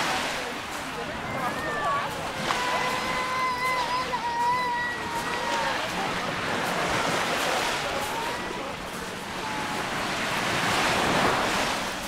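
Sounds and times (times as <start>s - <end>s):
faint distant voices: 0.0s - 12.0s
waves breaking on shingle: 0.0s - 12.0s.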